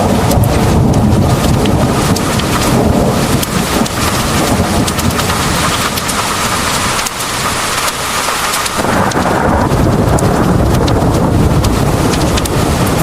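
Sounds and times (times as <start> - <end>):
heavy rain pouring: 0.0 - 13.0
low thunder rumble: 0.0 - 13.0
raindrops striking close by: 0.0 - 13.0.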